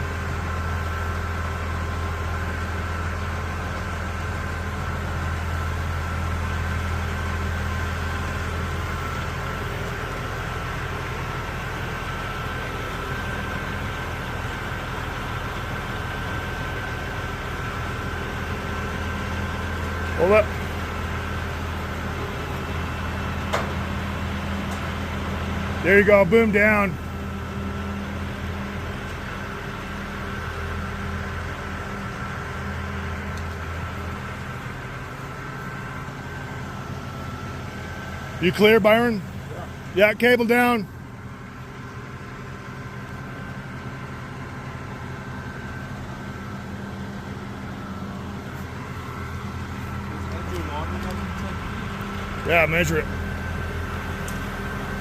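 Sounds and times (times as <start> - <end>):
diesel engine running: 0.0 - 55.0
steady high whine: 7.7 - 55.0.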